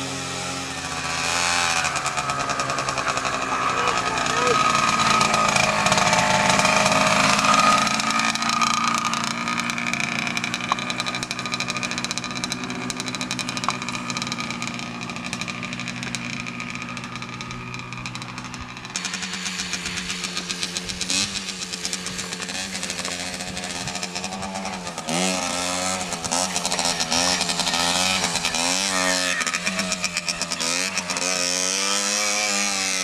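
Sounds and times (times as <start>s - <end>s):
two-stroke motorcycle engine running: 0.0s - 33.0s.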